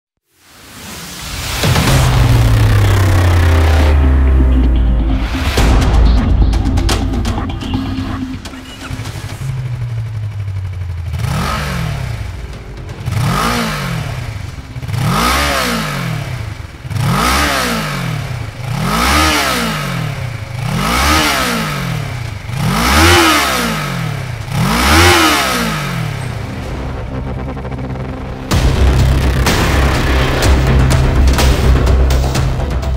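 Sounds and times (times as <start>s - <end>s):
motorcycle engine idling and revving: 1.7s - 32.9s.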